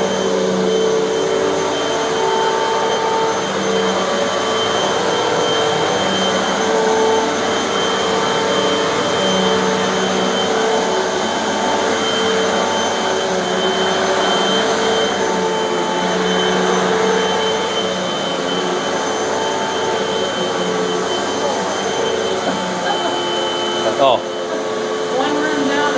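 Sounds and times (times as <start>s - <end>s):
vacuum cleaner on carpet: 0.0s - 25.9s.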